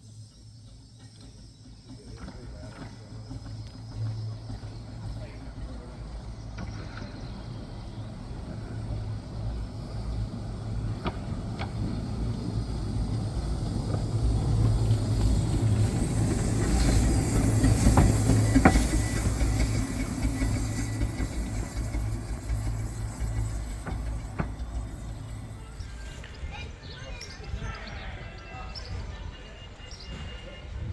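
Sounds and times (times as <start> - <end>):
miniature steam train rumbling: 0.0 - 30.9
wheels clicking over rails: 0.1 - 27.5.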